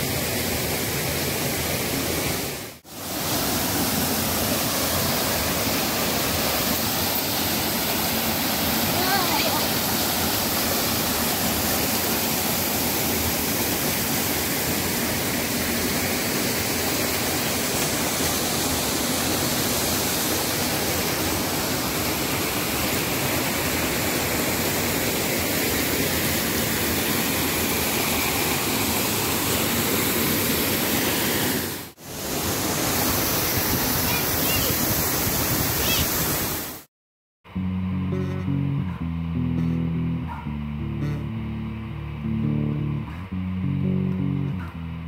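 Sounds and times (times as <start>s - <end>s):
waterfall rushing over boulders: 0.0s - 36.9s.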